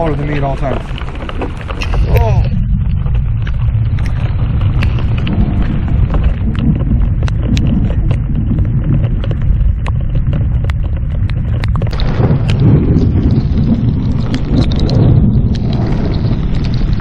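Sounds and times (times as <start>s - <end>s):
raindrops ticking on camera: 0.0s - 17.0s
wind rumble on microphone: 0.0s - 17.0s.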